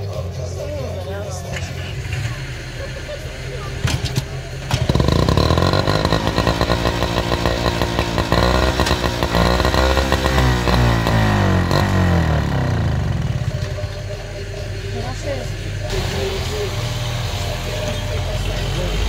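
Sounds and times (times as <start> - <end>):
small engine revving: 1.5 - 19.0.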